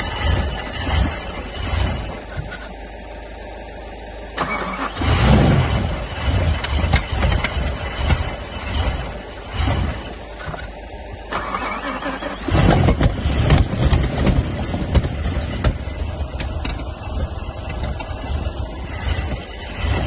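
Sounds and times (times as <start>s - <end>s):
engine misfiring with pops: 0.0s - 2.8s, 4.4s - 20.0s
car engine cranking: 0.0s - 20.0s.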